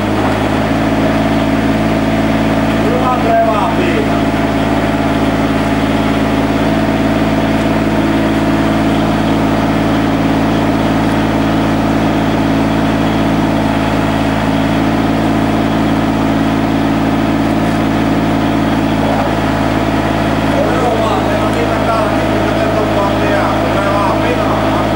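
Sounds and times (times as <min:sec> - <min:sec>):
excavator engine idling: 0:00.0 - 0:24.9.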